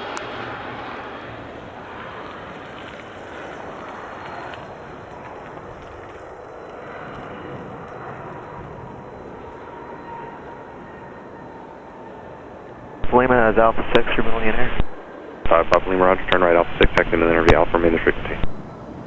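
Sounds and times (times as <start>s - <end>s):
jet engine rushing with whine: 0.0s - 19.0s.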